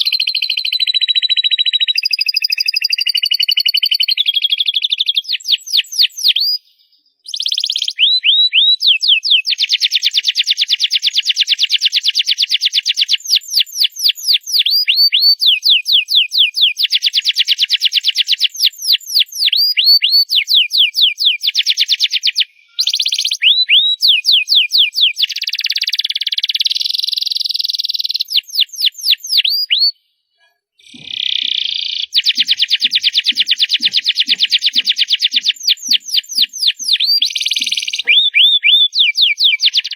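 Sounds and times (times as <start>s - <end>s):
canary singing trills: 0.0s - 30.0s, 30.8s - 39.9s.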